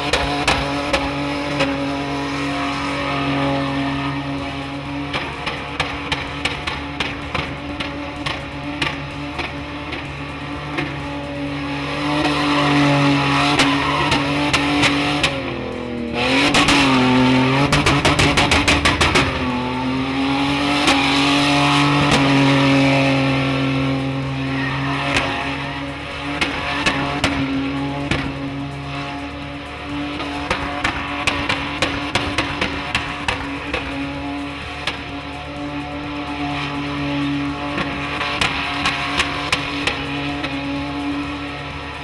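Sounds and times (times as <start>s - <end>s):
engine revving high: 0.0s - 42.0s.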